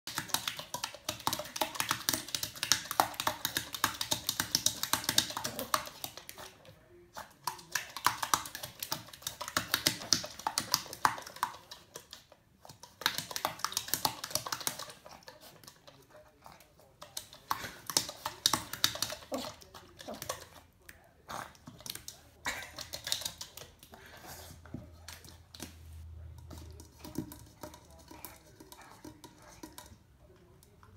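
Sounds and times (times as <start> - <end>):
puppy splashing in water bowl: 0.1 - 30.9.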